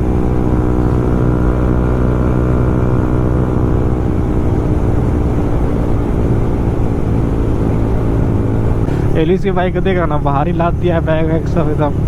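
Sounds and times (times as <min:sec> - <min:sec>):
motorcycle engine while riding: 0:00.0 - 0:12.0.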